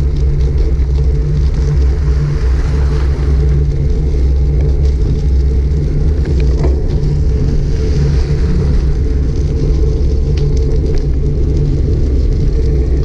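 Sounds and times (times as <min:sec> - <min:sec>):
bicycle road noise: 0:00.0 - 0:13.0
wind rumble on microphone: 0:00.0 - 0:13.0.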